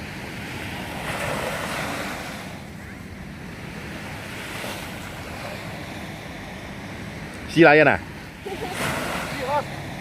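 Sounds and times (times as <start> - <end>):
sea waves washing at shore: 0.0 - 10.0.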